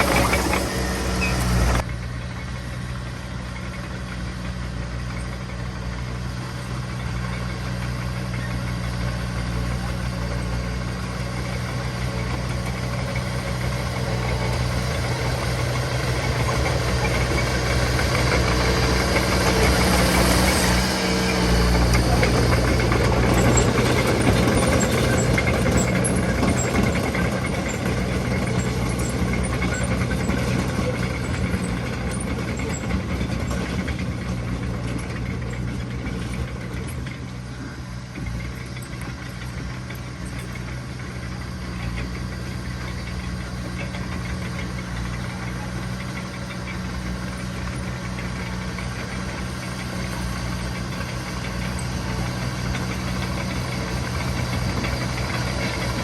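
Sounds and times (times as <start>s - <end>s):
heavy machinery diesel engine droning: 0.0s - 56.0s.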